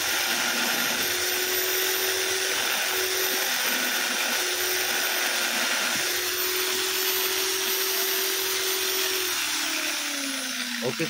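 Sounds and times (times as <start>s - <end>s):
electric drill grinding metal: 0.0s - 11.0s.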